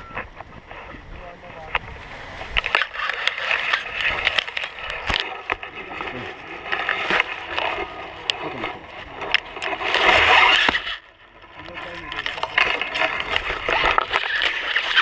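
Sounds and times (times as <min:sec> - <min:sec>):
harness gear rustling and scraping: 0:01.8 - 0:15.0.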